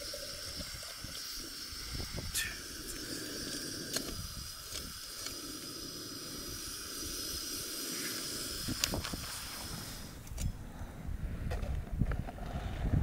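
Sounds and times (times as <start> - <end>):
stove burner hissing: 0.0 - 10.8.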